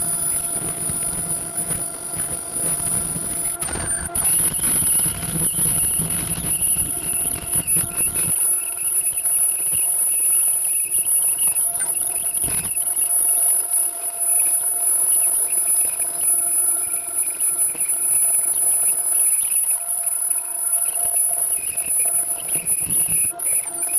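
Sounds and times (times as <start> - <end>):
lathe whining: 0.0 - 23.9.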